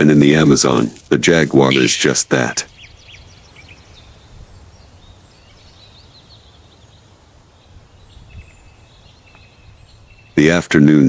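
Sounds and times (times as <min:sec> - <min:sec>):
small birds chirping and trilling: 0:00.0 - 0:11.0.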